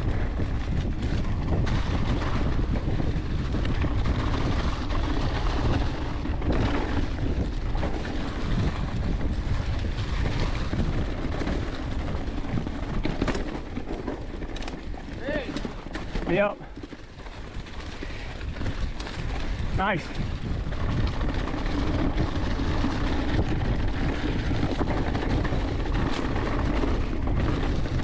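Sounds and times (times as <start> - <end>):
bike knocking over bumps: 0.0 - 28.0
wind rushing over microphone: 0.0 - 28.0.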